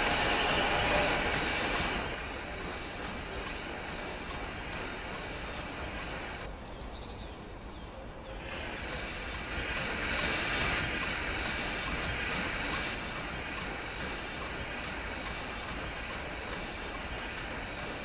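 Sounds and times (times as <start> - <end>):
steam train rumbling on rails: 0.0 - 18.0.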